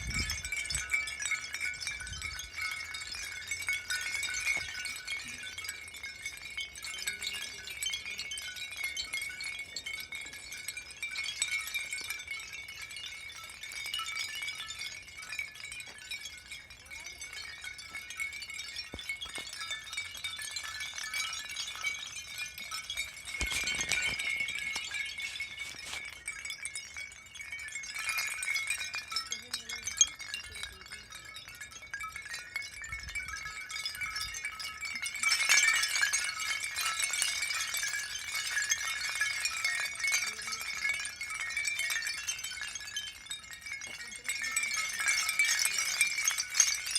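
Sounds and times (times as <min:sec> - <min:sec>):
glassy clinking and crackling: 0:00.0 - 0:46.9.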